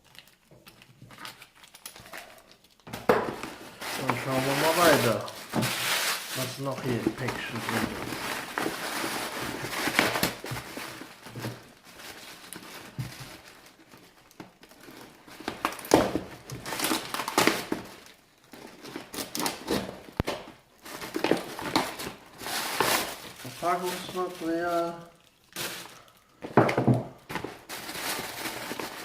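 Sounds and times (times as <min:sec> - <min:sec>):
packing material crinkling: 0:00.0 - 0:29.0.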